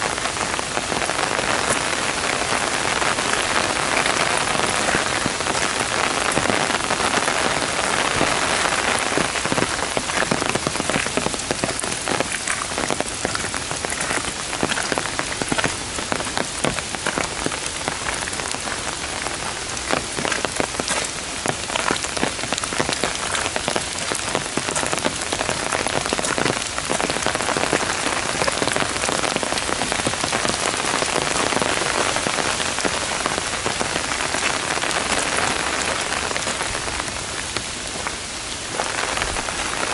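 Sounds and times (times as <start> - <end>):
heavy rain on gravel and foliage: 0.0 - 39.9.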